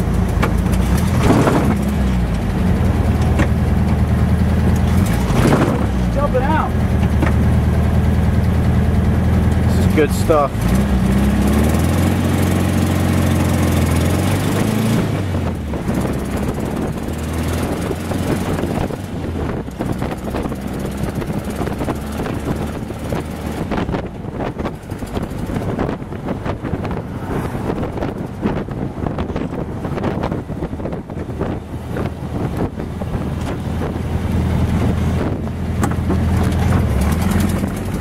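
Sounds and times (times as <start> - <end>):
wind buffeting microphone: 0.0 - 7.5, 9.6 - 38.0
dune buggy engine: 0.0 - 38.0.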